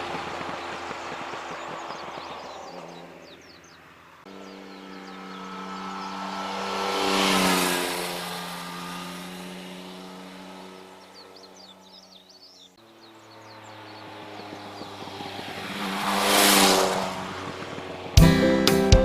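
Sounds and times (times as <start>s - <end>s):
motorcycle engine passing by: 0.0s - 19.0s.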